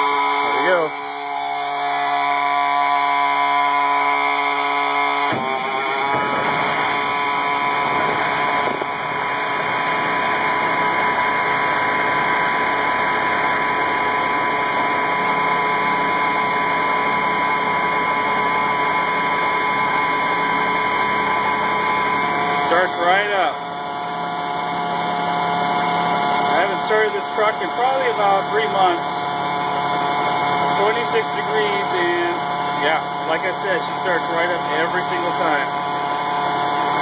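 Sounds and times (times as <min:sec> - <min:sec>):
diesel truck engine starting and idling: 0:00.0 - 0:37.0.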